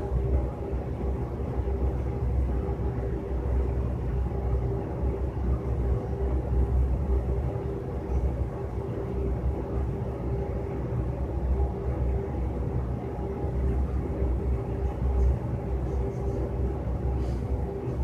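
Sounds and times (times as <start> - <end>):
ventilation system humming: 0.0 - 18.0.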